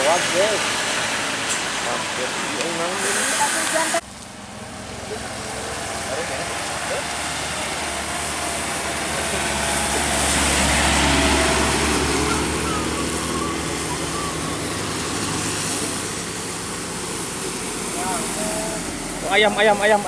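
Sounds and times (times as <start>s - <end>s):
tyres hissing on wet road: 0.0s - 20.0s
vehicle engine rumble: 0.0s - 20.0s.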